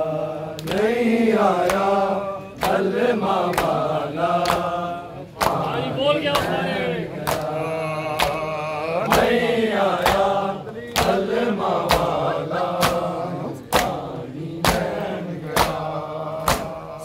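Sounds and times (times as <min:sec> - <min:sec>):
crowd of men chanting: 0:00.0 - 0:17.0
men slapping chests in unison: 0:00.1 - 0:17.0.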